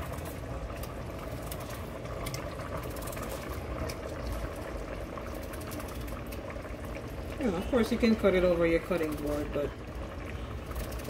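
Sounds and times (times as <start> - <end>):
stew bubbling in a pot: 0.0 - 11.0.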